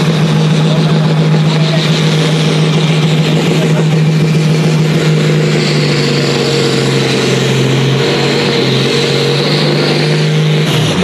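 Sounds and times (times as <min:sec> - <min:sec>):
tractor diesel engine at high revs: 0:00.0 - 0:11.0.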